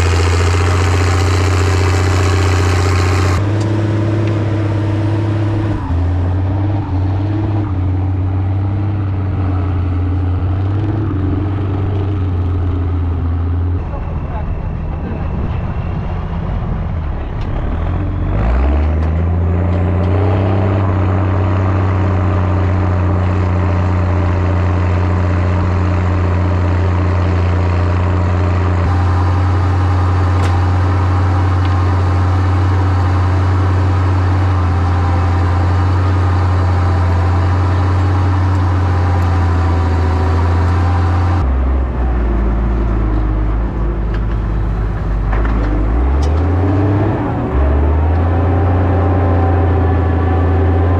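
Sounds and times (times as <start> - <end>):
tractor diesel engine working hard: 0.0 - 50.9.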